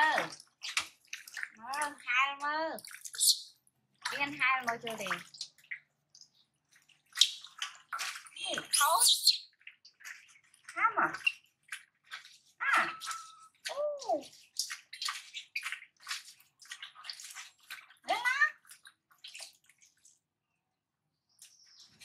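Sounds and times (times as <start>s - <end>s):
water splashing and dripping: 0.0s - 20.4s, 21.3s - 22.0s.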